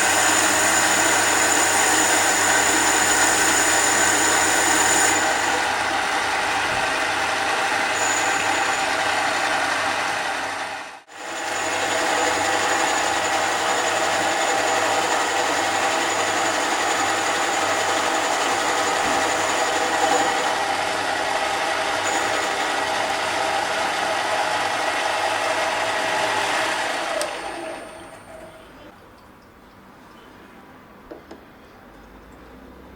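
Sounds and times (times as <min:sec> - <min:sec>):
lathe motor whining: 0:00.0 - 0:28.8.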